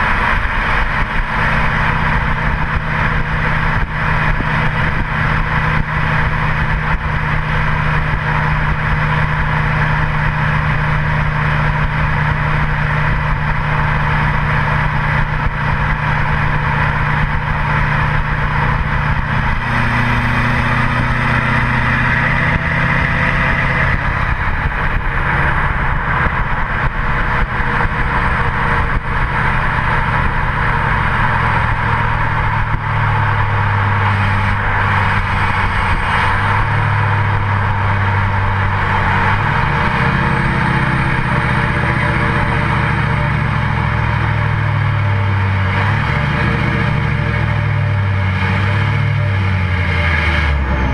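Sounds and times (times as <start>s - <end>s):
diesel truck exhaust rumble: 0.0s - 50.9s
steady rushing noise: 0.0s - 50.9s.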